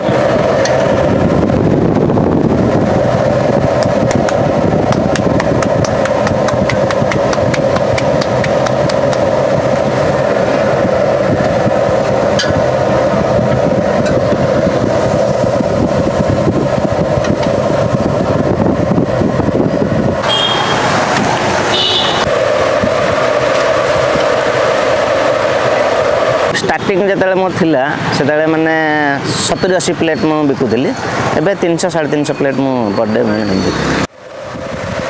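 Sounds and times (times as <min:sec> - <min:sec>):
gas burner roaring: 0:00.0 - 0:35.0.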